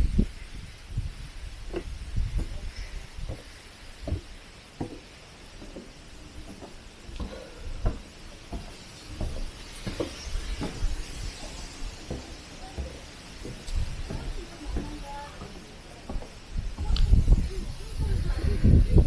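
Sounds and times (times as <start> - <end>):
footsteps on wooden deck: 0.0 - 19.0.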